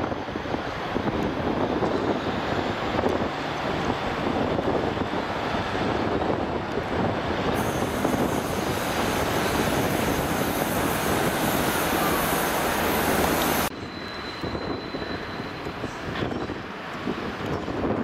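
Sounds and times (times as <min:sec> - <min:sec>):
distant train rumble: 0:00.0 - 0:17.8
diesel train engine and wheels: 0:00.0 - 0:18.0.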